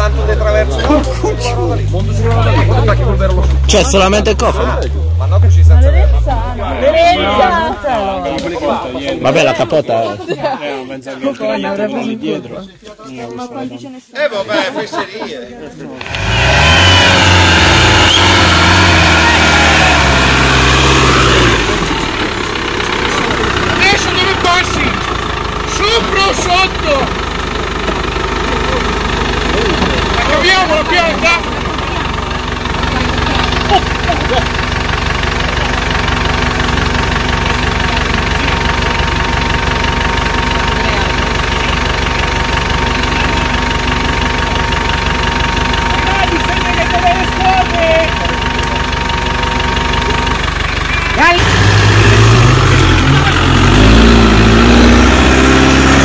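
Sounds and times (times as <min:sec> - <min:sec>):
buggy engine running loud: 0:00.0 - 0:10.0, 0:15.9 - 0:56.0.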